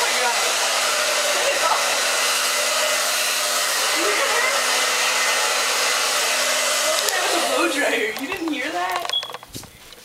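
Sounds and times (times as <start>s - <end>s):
hair dryer running: 0.0s - 8.9s.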